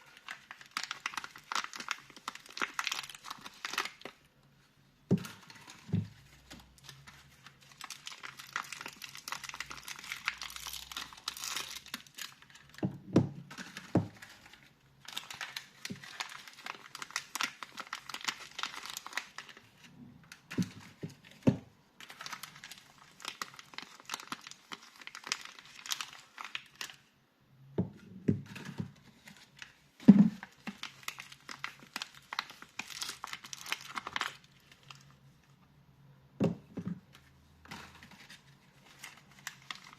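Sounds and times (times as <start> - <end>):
wrapper crinkling and tearing: 0.0 - 4.3, 5.2 - 12.8, 13.4 - 21.4, 22.0 - 27.1, 28.5 - 35.4, 37.0 - 39.9.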